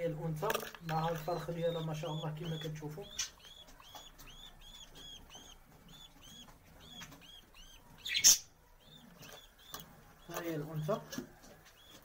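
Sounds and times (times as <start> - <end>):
small bird chirping: 0.1 - 12.0.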